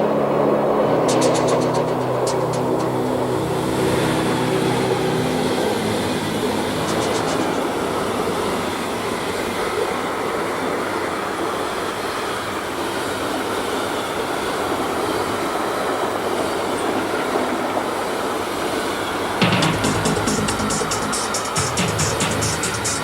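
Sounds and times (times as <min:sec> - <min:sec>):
freight train wheels on rails: 0:00.0 - 0:23.0.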